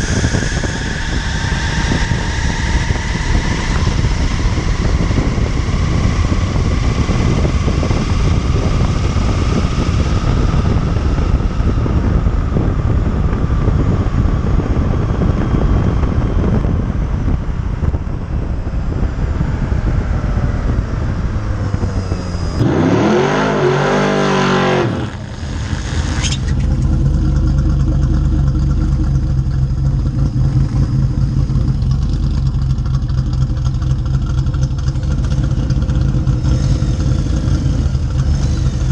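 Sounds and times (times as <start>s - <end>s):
engine revving: 0.0s - 18.0s, 18.7s - 38.9s
car driving at speed: 0.0s - 38.9s
road and wind noise: 0.0s - 38.9s.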